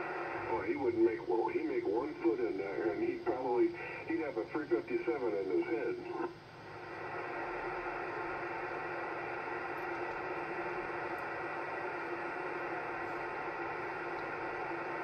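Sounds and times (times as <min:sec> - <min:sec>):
faint steady tones: 0:00.0 - 0:15.0
radio static hiss: 0:00.0 - 0:15.0.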